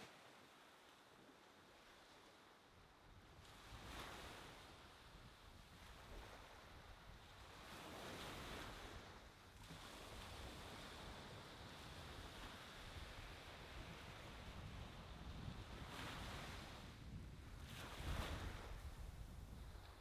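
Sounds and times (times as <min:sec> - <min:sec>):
faint ocean surf on sand: 0:00.0 - 0:20.0.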